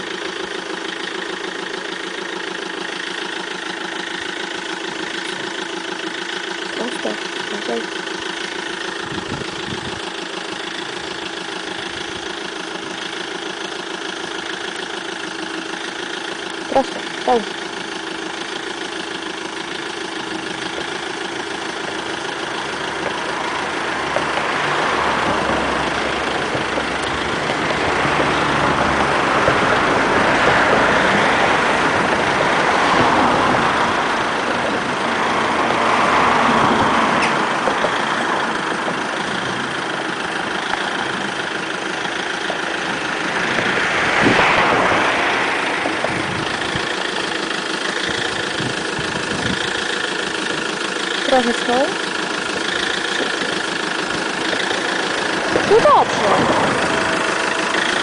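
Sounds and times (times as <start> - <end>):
van engine idling: 0.0 - 58.0.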